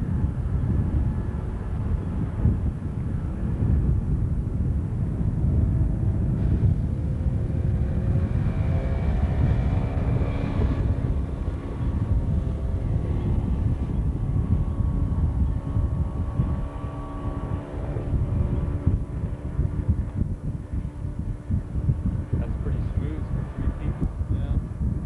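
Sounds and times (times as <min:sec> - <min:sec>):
dense low rumble: 0:00.0 - 0:25.0
outboard motor running: 0:00.3 - 0:25.0.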